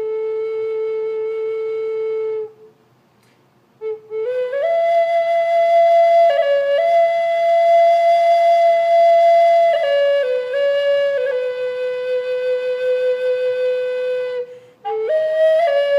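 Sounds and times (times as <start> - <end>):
flute playing slow melody: 0.0 - 2.7, 3.8 - 15.9.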